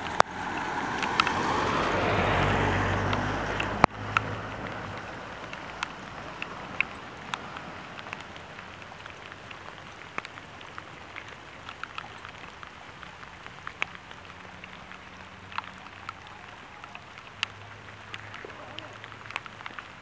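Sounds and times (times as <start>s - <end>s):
light rain hiss: 0.0s - 20.0s
raindrops ticking on leaves: 0.0s - 20.0s.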